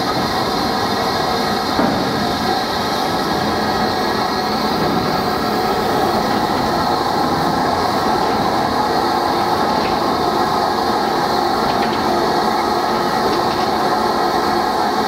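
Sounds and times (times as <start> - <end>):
train wheels rolling on rail: 0.0 - 15.0.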